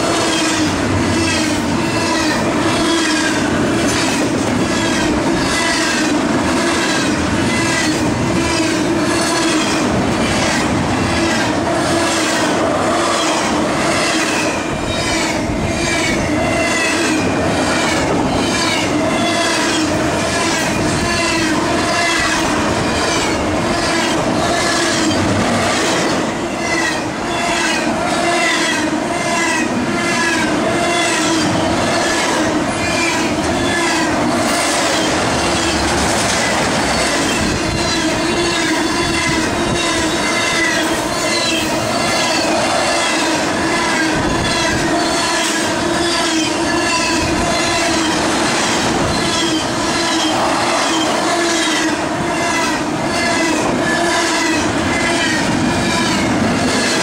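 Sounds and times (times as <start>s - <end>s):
locomotive air horn: 0.0s - 9.9s, 11.0s - 25.4s, 26.4s - 57.0s
train wheels clattering on rails: 0.0s - 57.0s.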